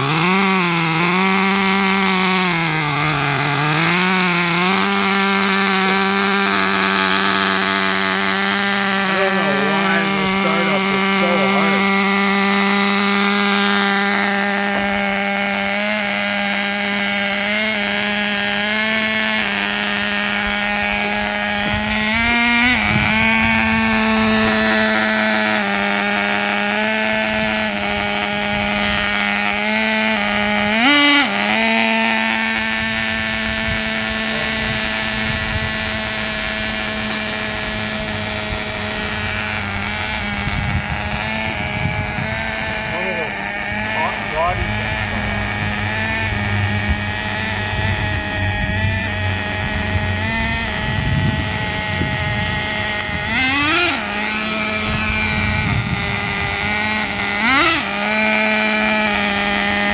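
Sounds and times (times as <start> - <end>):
nitro engine running high: 0.0 - 59.9.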